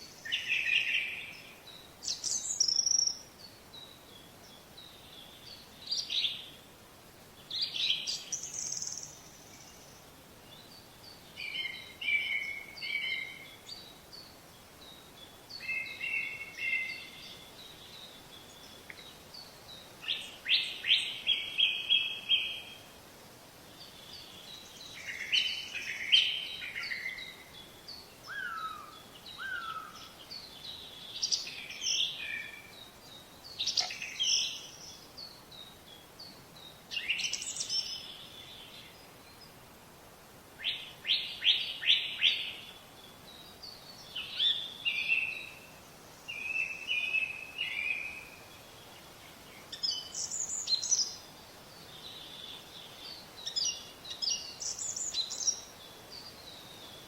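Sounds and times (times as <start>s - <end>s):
birds singing and chirping: 0.0s - 6.6s, 7.4s - 22.8s, 23.8s - 39.6s, 40.6s - 57.0s
faint steady hiss: 0.0s - 57.0s.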